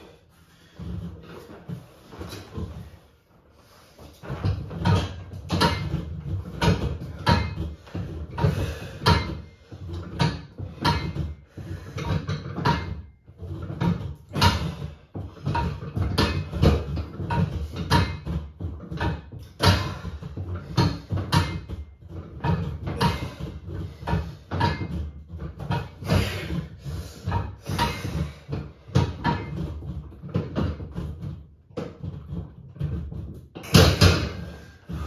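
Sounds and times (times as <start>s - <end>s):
weight machine knocks and creaks: 0.0s - 35.0s.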